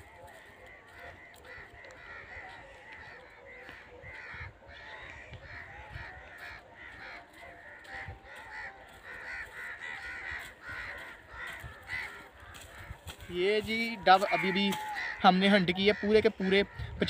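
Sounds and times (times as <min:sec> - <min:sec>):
flock of birds calling: 0:00.0 - 0:17.0.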